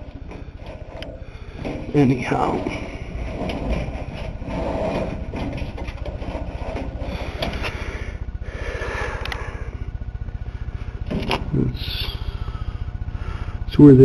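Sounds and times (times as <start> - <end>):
low pulsing mechanical hum: 0.0 - 14.0.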